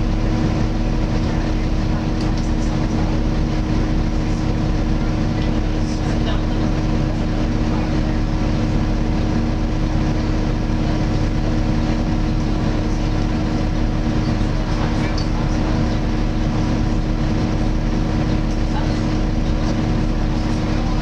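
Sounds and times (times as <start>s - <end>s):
diesel engine: 0.0s - 21.0s
engine cooling fan drone: 0.0s - 21.0s
road noise: 0.0s - 21.0s.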